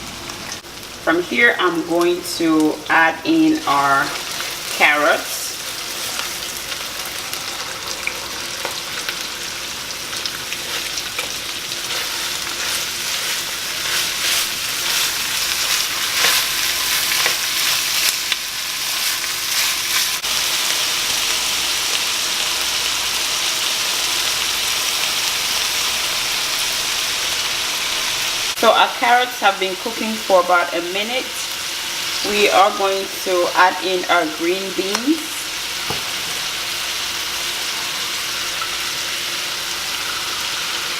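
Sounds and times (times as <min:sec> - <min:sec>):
vegetables sizzling in a pan: 0:00.0 - 0:40.9.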